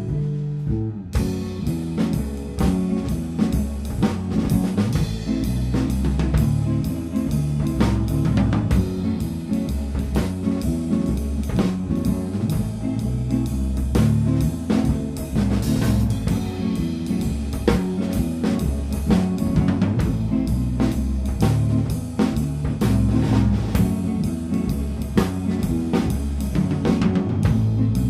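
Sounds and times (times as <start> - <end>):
instrumental rock band: 0.0 - 28.0.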